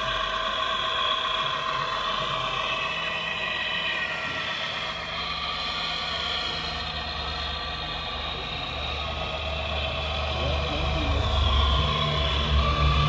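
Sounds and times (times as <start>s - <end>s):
low hum: 0.0s - 13.0s
model excavator mechanical whine: 0.0s - 13.0s.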